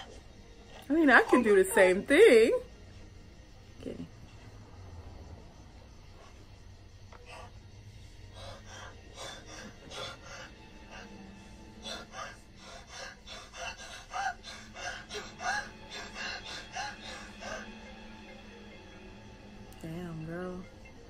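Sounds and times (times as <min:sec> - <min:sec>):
low music drone: 0:00.0 - 0:21.0.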